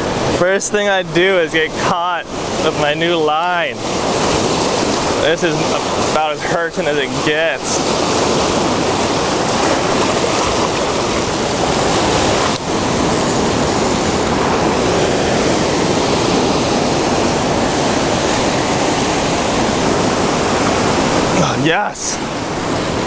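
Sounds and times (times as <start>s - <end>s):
surf breaking over rocks: 0.0s - 23.0s.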